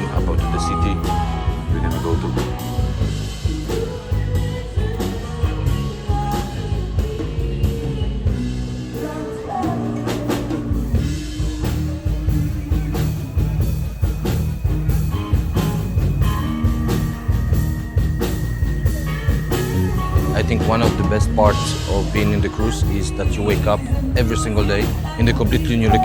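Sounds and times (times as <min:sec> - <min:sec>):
rock music with vocals: 0:00.0 - 0:26.0.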